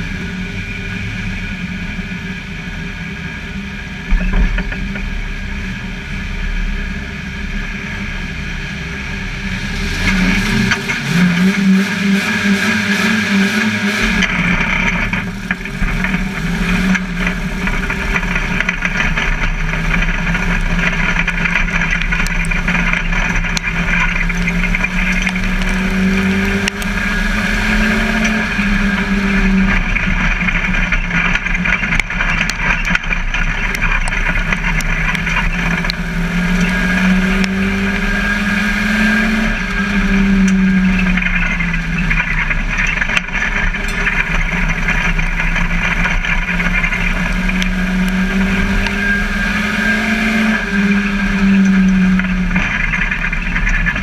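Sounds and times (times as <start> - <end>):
race car engine running hard: 0.0 - 54.0
rattle: 1.2 - 54.0.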